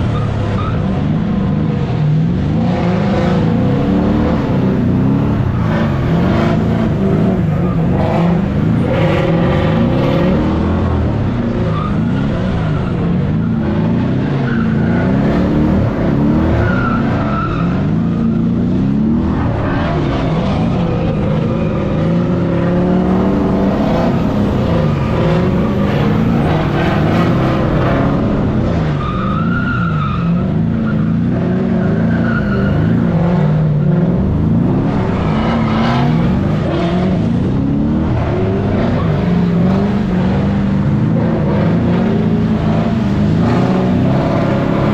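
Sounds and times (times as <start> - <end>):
car engine revving: 0.0 - 44.9
tyres skidding and squealing: 0.0 - 44.9.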